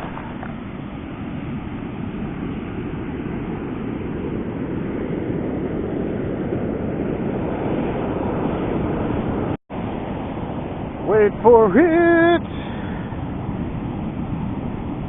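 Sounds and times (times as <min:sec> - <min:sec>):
ocean surf: 0:00.0 - 0:15.0
wind on the microphone: 0:00.0 - 0:15.0.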